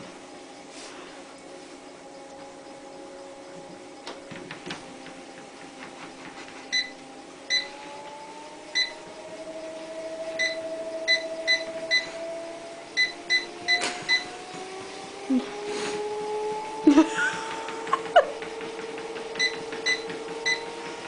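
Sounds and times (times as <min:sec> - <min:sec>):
treadmill motor and belt whine: 0:00.0 - 0:21.0.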